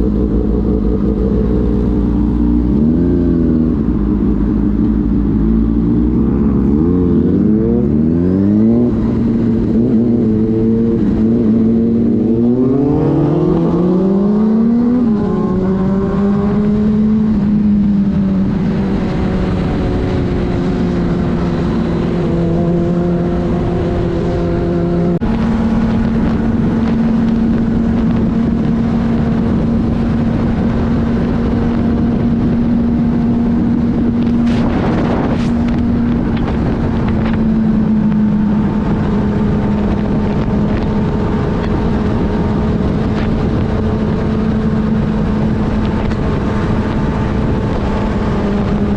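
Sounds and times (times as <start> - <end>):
motorcycle engine accelerating: 0.0 - 48.9
wind rush: 0.0 - 48.9.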